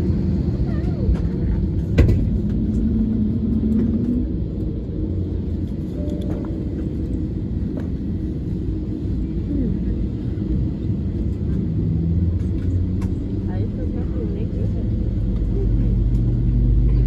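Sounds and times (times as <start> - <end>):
low rumble of aircraft cabin: 0.0 - 17.0.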